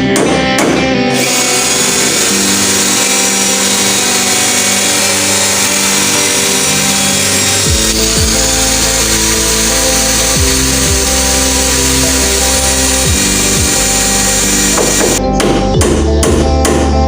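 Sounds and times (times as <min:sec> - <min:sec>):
electric power tool cutting wood: 0:01.1 - 0:15.2
motor winding down: 0:01.2 - 0:15.2.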